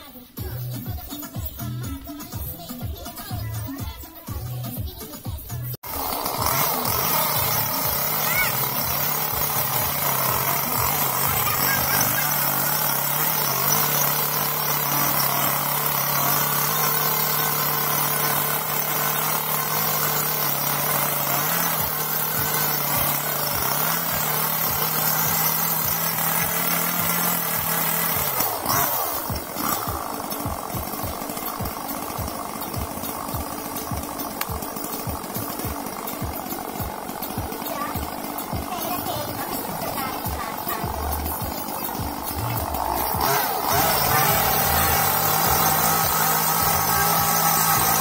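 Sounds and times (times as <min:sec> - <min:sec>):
chainsaw cutting tree trunk: 0:05.8 - 0:48.0.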